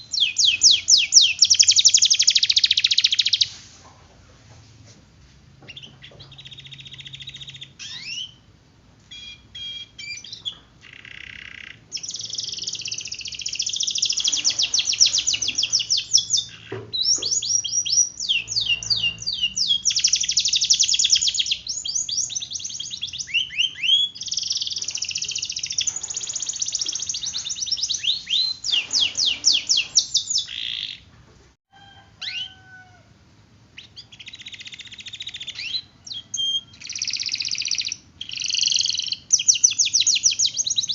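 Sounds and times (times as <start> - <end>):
canary singing trills: 0.0 - 3.5, 5.6 - 31.1, 32.2 - 32.9, 33.7 - 40.9.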